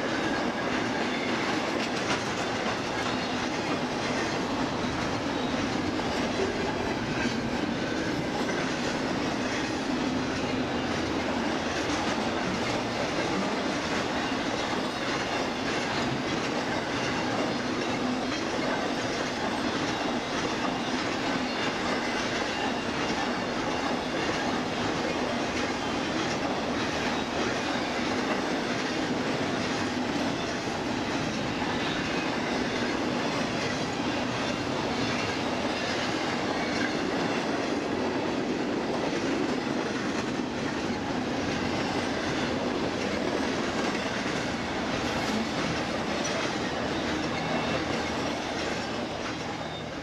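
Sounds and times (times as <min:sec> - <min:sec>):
freight train rumbling past: 0:00.0 - 0:50.0
wheels clacking over rail joints: 0:00.0 - 0:50.0.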